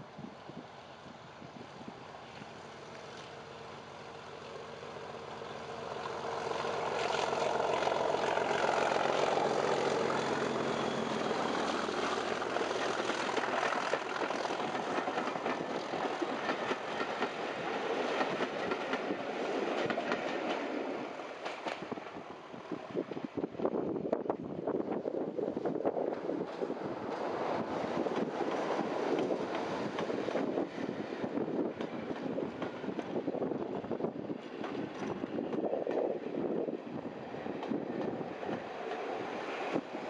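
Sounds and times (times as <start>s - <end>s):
diesel locomotive engine: 0.0s - 40.0s
train wheels clickety-clack: 2.3s - 24.4s, 25.6s - 40.0s.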